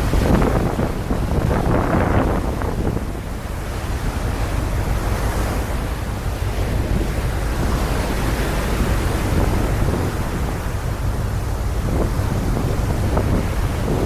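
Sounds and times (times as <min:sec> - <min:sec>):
low engine rumble: 0:00.0 - 0:14.0
wind buffeting microphone: 0:00.0 - 0:14.0.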